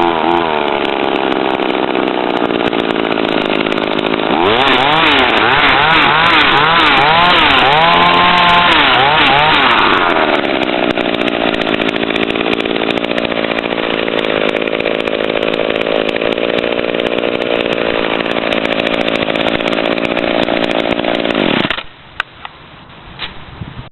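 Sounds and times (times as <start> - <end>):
chainsaw revving and idling: 0.0 - 21.9.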